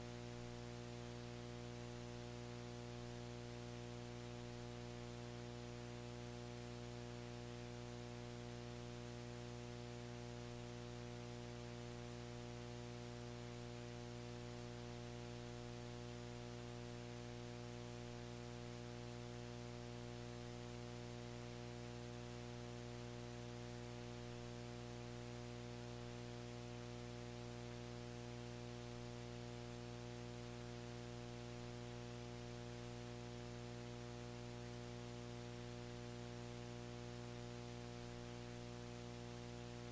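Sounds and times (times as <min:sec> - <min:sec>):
buzzy electrical hum: 0:00.0 - 0:39.9.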